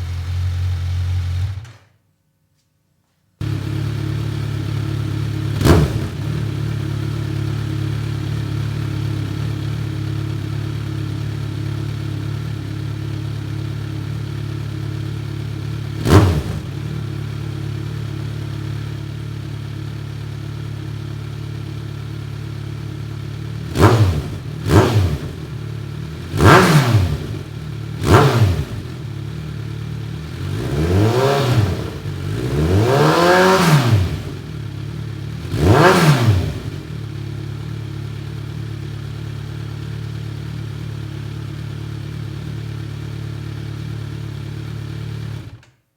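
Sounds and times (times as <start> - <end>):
motorcycle engine idling and revving: 0.0 - 1.8, 3.4 - 45.8.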